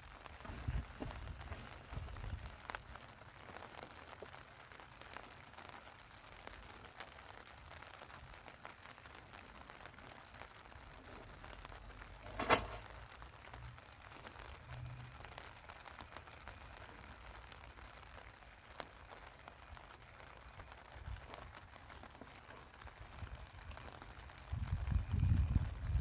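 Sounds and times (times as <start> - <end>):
low steady outdoor hush: 0.0 - 26.0
small ticks and clicks: 0.0 - 26.0.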